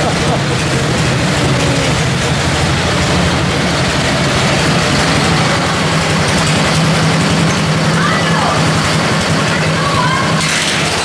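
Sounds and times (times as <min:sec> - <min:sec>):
garden tractor engines droning: 0:00.0 - 0:11.0.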